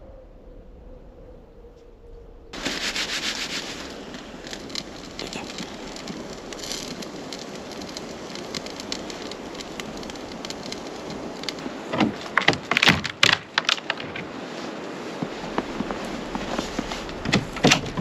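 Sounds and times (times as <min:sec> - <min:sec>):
wood fire crackling: 0:02.4 - 0:18.0.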